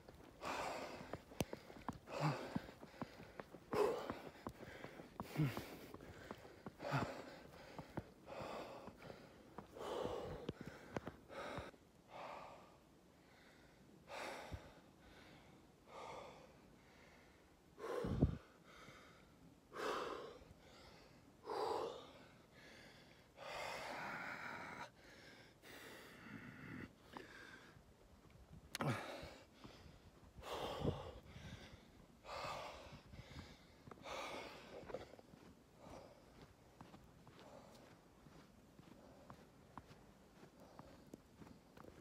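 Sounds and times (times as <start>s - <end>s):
man gasping for breath: 0.3s - 27.8s, 28.7s - 36.5s.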